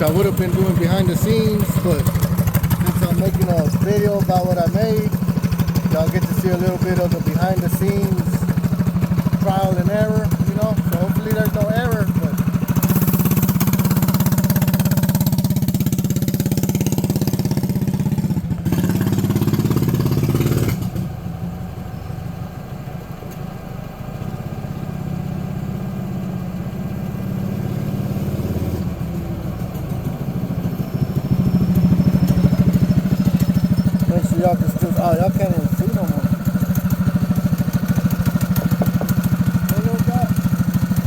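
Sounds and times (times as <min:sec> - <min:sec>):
mini bike engine running: 0:00.0 - 0:21.2, 0:27.6 - 0:41.0.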